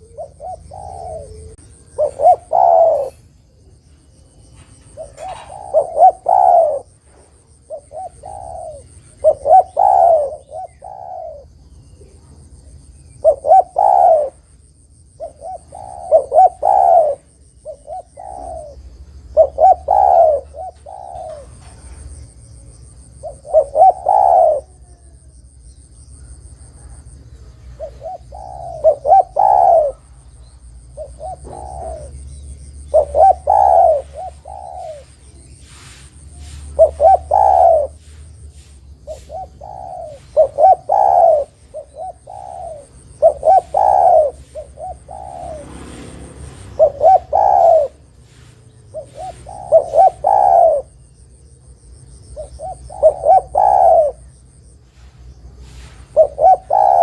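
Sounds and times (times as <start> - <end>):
dove cooing: 0.0 - 25.5, 26.1 - 57.0.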